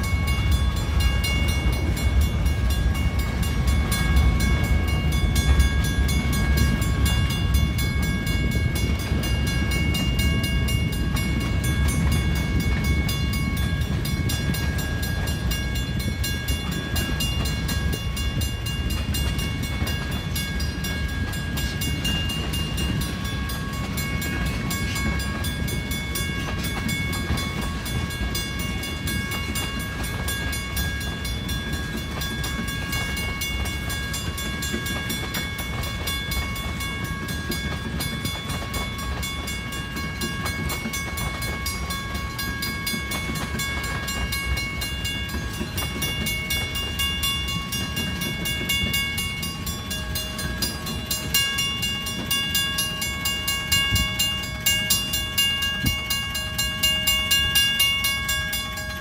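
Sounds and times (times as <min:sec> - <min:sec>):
freight train rolling past: 0:00.0 - 0:59.0
grade-crossing bell: 0:00.0 - 0:59.0
high steady ringing: 0:00.0 - 0:59.0.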